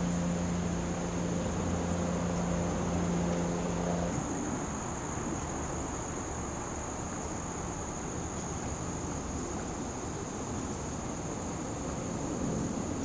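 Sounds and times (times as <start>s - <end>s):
crickets chirring: 0.0s - 13.0s
low rumble of wind: 0.0s - 13.0s.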